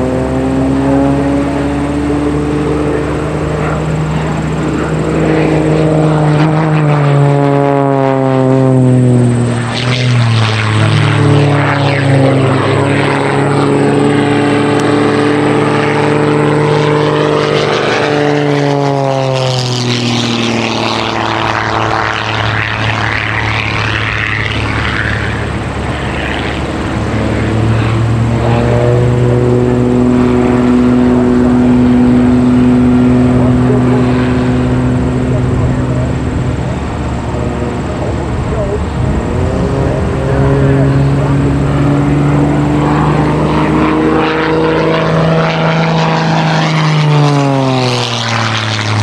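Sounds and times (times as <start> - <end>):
biplane engines droning: 0.0 - 49.0.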